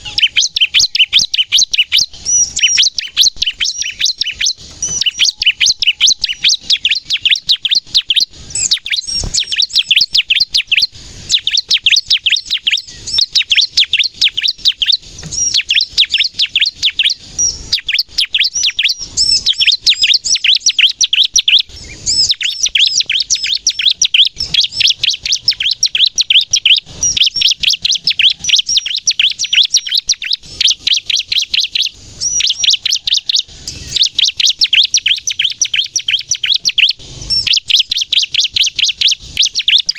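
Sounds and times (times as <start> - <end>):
bird singing sharp chirps: 0.0 - 39.9.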